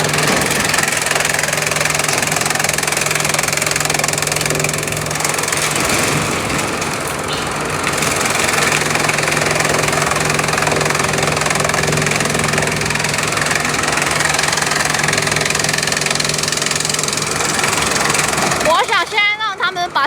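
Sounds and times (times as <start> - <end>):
chipping machinery din: 0.0 - 20.0.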